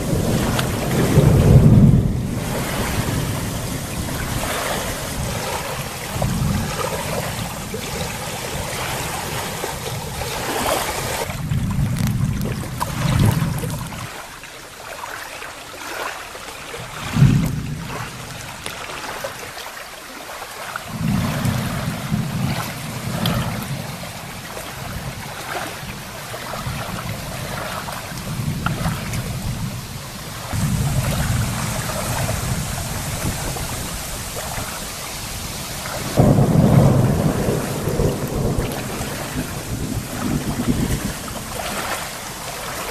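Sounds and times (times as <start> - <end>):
rolling thunder: 0.0 - 14.2, 16.9 - 19.2, 20.9 - 42.9
steady rain hiss: 0.0 - 15.8, 16.4 - 42.9.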